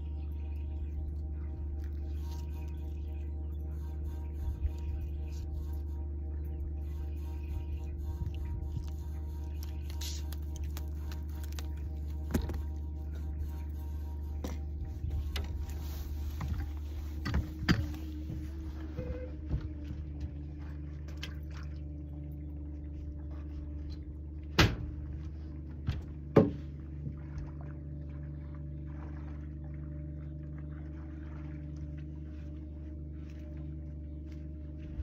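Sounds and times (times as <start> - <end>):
boat motor humming: 0.0 - 35.0.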